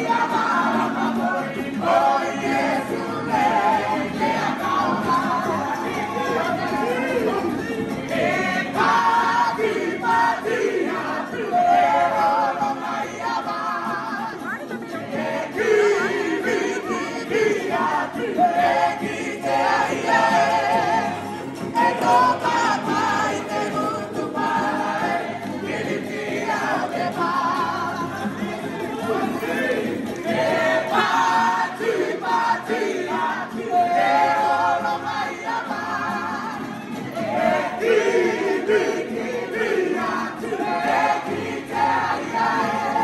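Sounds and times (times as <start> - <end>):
group singing together: 0.0 - 43.0
strummed ukuleles: 0.0 - 43.0.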